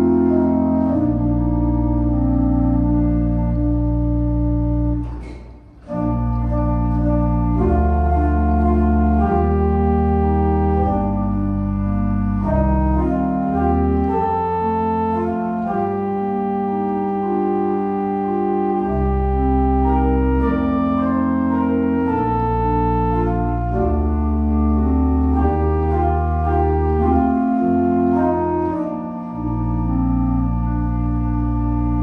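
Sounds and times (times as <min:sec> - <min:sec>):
pipe organ playing a hymn: 0:00.0 - 0:32.0.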